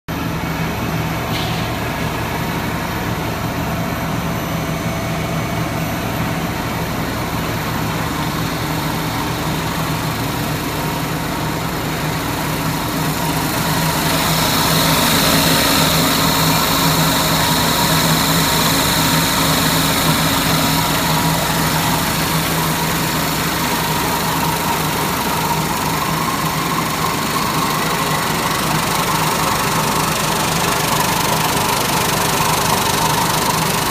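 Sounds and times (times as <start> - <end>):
production line machinery humming: 0.1 - 33.9.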